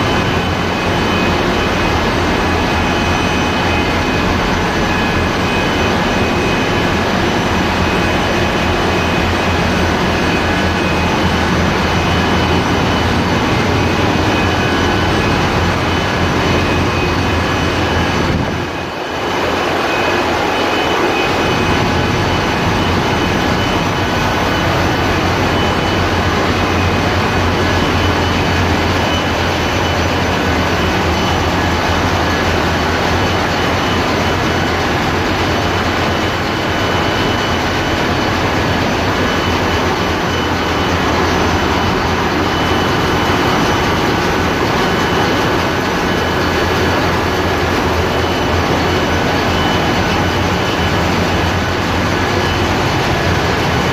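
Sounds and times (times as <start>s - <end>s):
diesel engines droning: 0.0s - 53.9s
faint steady whines: 0.0s - 53.9s.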